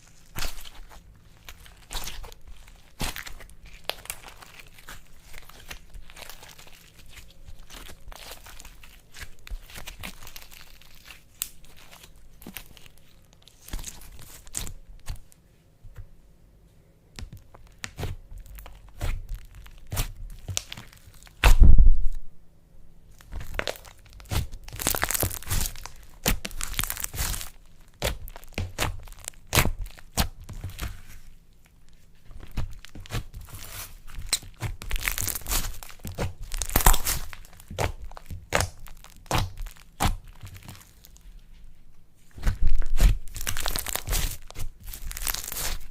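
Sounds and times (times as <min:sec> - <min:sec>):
material crackling and crunching: 0:00.0 - 0:15.4, 0:17.2 - 0:22.3, 0:23.1 - 0:45.9.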